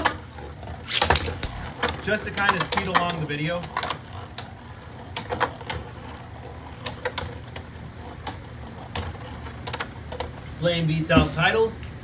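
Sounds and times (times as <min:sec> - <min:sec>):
spinning tops clacking: 0:00.0 - 0:10.5
faint steady whir: 0:00.0 - 0:12.0.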